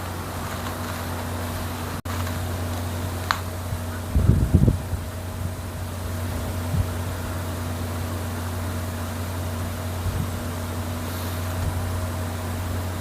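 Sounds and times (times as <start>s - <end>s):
fan whoosh: 0.0s - 13.0s
heat pump low hum: 0.0s - 13.0s.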